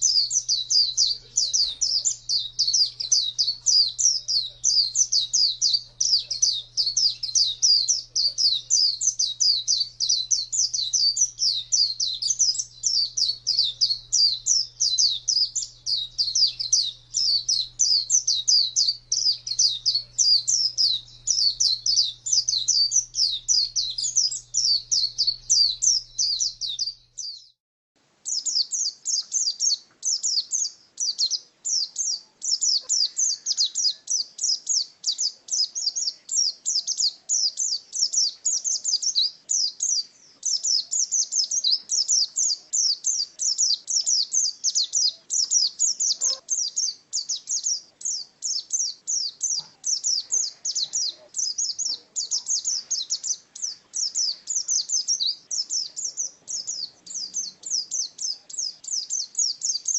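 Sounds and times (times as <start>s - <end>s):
bird twittering song: 0.0s - 27.6s, 28.2s - 59.9s.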